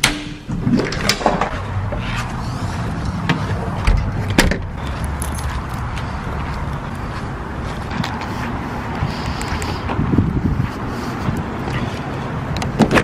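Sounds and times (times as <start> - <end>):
steady low rumble: 1.4 - 12.6.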